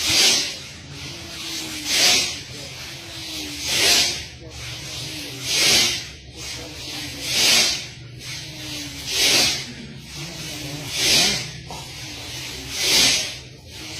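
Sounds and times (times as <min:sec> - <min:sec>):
people huffing air through noses: 0:00.0 - 0:13.9.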